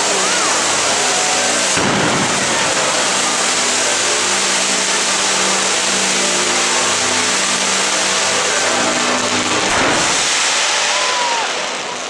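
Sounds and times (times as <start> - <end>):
fireworks hissing rush: 0.0 - 12.0.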